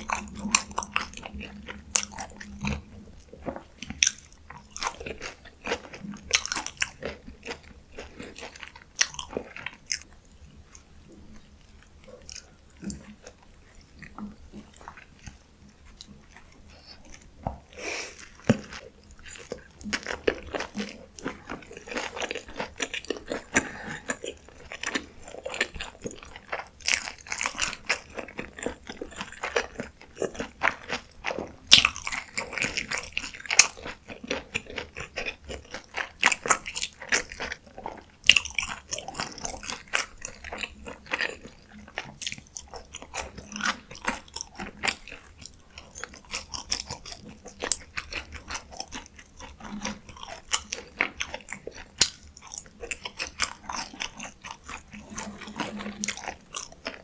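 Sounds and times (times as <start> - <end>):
crunchy bites and chewing: 0.0 - 10.1, 16.0 - 57.0.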